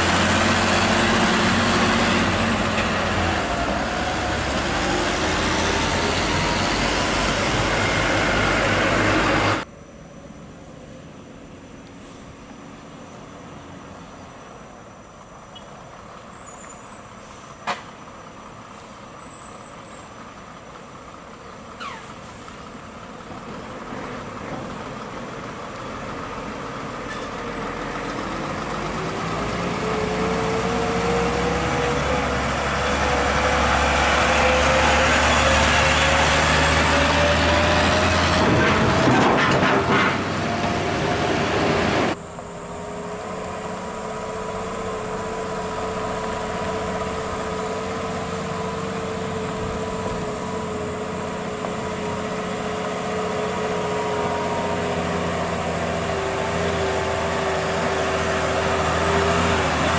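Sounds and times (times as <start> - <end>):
heavy truck engine under load: 0.0 - 9.7, 10.4 - 59.9.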